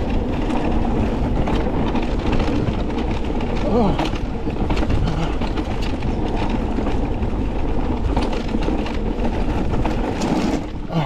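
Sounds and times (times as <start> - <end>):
bike rattling: 0.0 - 11.0
tyres and wind rumbling: 0.0 - 11.0.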